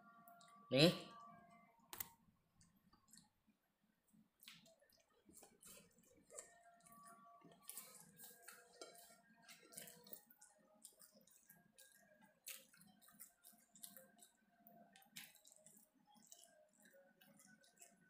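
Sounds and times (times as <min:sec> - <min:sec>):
chewing food: 0:01.2 - 0:18.0.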